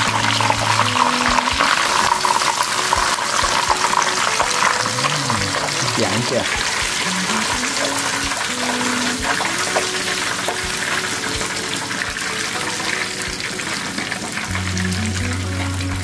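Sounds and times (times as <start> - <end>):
background music: 0.0 - 16.0
food deep-frying in hot oil: 0.0 - 16.0.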